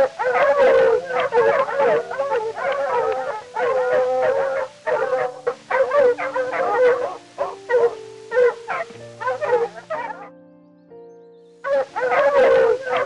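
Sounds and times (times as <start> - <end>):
fox yelps and howls: 0.0 - 10.3, 11.6 - 13.0
background music with sustained notes: 0.0 - 13.0.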